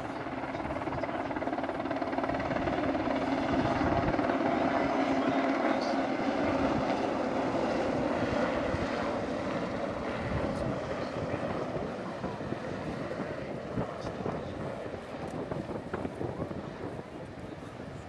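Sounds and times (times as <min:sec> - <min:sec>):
helicopter flying past: 0:00.0 - 0:18.0.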